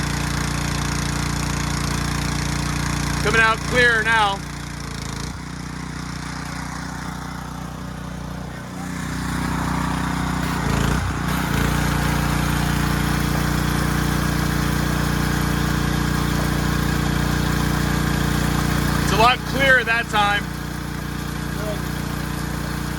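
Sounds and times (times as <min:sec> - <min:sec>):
pressure washer spraying water: 0:00.0 - 0:22.9.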